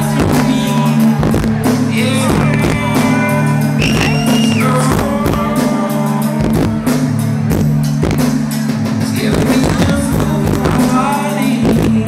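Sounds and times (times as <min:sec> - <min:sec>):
electric guitar: 0:00.0 - 0:12.0
steady drum beat: 0:00.0 - 0:12.0.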